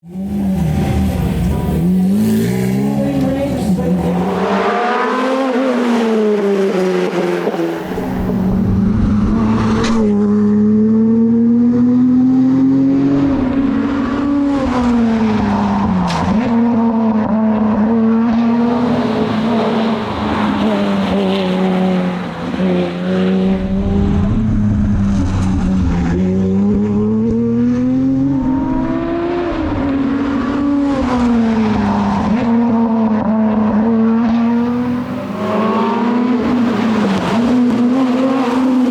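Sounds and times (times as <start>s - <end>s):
car engine revving hard: 0.0s - 24.3s, 26.2s - 38.9s.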